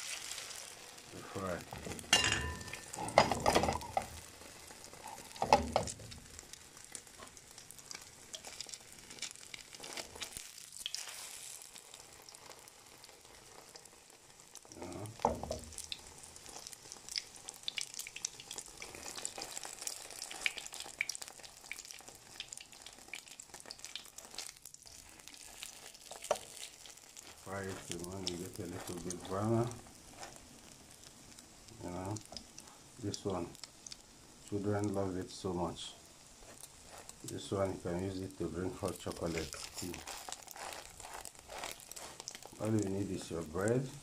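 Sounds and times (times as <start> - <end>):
bread sizzling in hot oil: 0.0 - 44.0.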